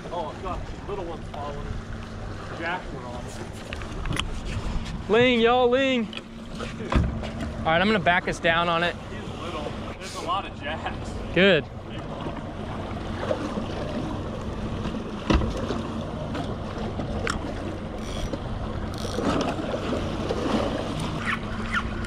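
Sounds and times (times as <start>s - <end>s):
outboard motor idling: 0.0s - 22.0s
water noise: 0.0s - 22.0s
wind: 0.0s - 22.0s.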